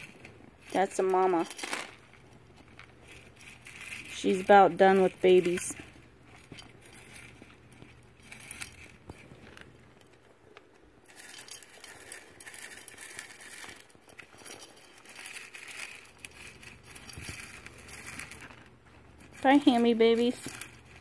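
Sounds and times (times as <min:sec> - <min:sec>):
hamsters rustling paper bedding: 0:00.0 - 0:10.2, 0:11.1 - 0:21.0.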